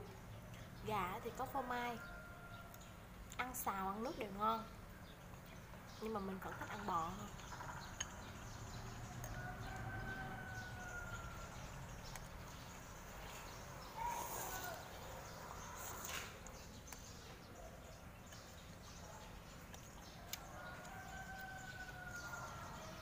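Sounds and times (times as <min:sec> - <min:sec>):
faint background noise: 0:00.0 - 0:23.0.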